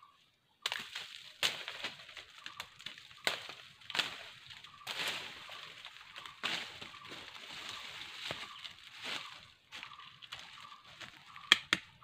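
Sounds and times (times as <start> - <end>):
twigs snapping: 0.6 - 9.2, 10.2 - 12.0
dry leaves crackling and rustling: 0.6 - 11.5.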